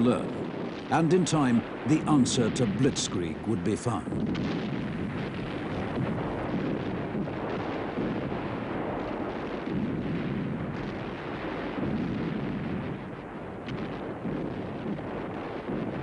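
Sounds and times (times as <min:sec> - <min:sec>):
rumble of artillery and explosions: 0:00.0 - 0:16.0.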